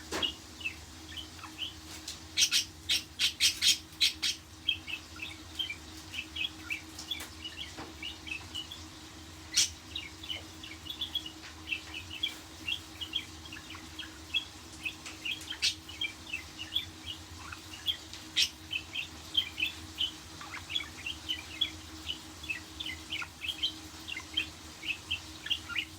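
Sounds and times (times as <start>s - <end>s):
budgerigars chirping and warbling: 0.1s - 25.9s.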